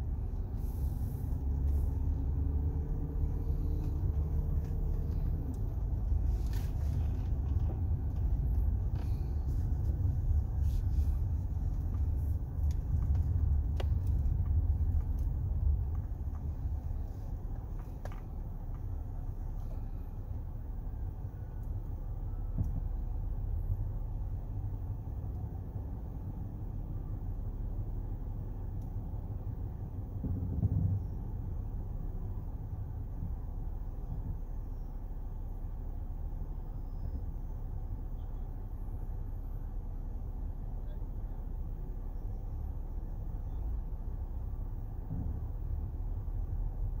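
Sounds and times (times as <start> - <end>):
car engine rumble: 0.0 - 47.0
road noise: 0.0 - 47.0.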